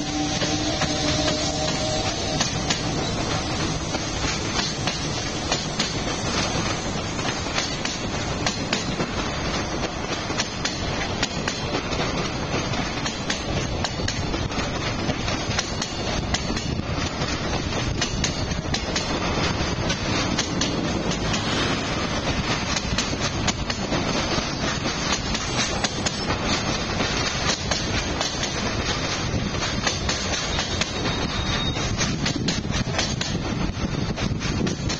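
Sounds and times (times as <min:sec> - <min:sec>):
train wheels clacking over rail joints: 0:00.0 - 0:34.9.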